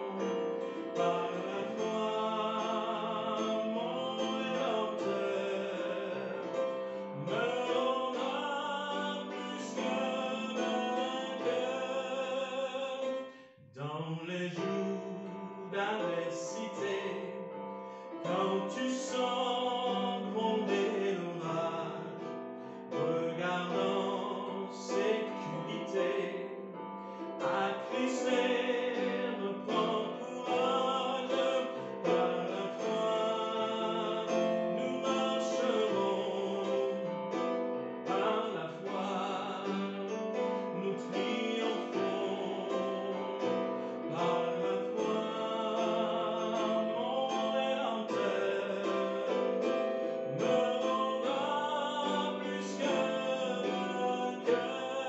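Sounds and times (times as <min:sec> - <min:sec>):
man singing: 0:00.0 - 0:55.0.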